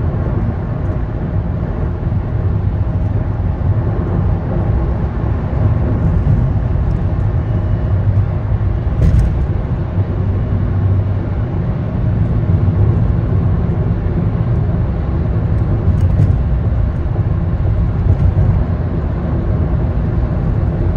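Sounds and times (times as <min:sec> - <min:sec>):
car road and engine rumble: 0:00.0 - 0:20.9.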